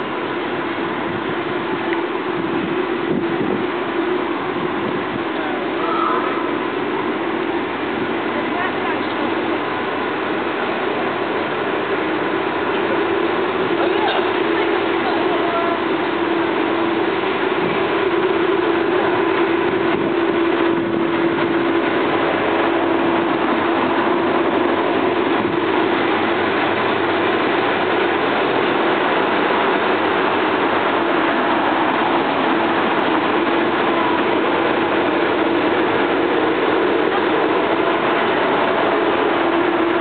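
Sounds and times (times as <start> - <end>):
engine running hum: 0.0 - 40.0.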